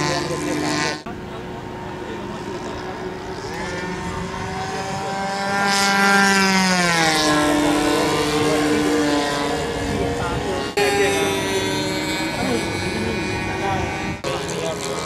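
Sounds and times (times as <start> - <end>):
model aircraft engine flying past: 0.0 - 15.0.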